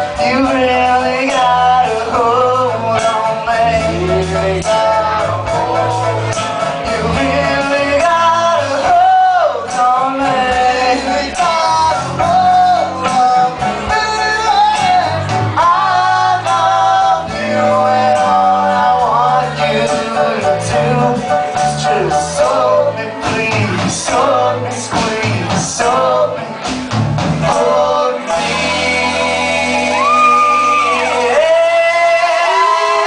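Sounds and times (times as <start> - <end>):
drums: 0.0 - 33.0
person singing: 0.0 - 33.0
piano: 0.0 - 33.0.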